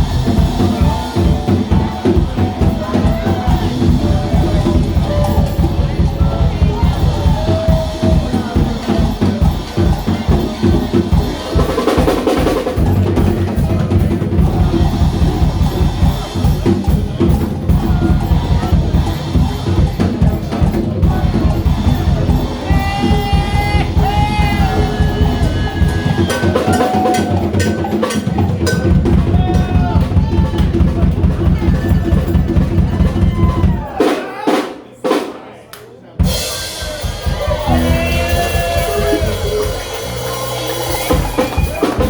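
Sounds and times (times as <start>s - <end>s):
live band playing: 0.0s - 35.4s, 36.2s - 42.0s
drum kit: 0.0s - 35.5s, 36.2s - 42.0s.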